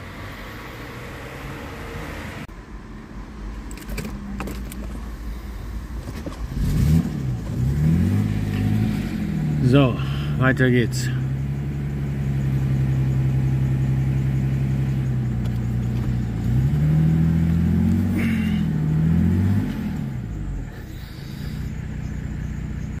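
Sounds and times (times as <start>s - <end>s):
car engine revving: 0.0s - 2.6s, 3.2s - 23.0s.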